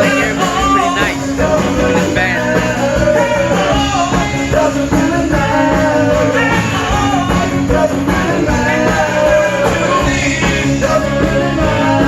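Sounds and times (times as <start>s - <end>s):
live band playing: 0.0s - 12.0s
person singing: 0.0s - 12.0s.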